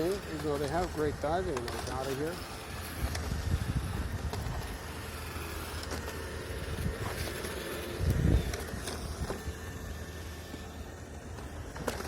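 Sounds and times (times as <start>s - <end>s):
robot vacuum humming: 0.0s - 12.0s.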